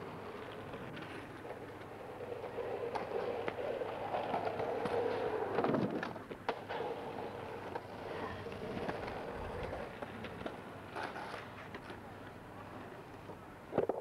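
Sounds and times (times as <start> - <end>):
skateboard clack: 0.0 - 14.0
skateboard wheels rolling on asphalt: 0.0 - 14.0.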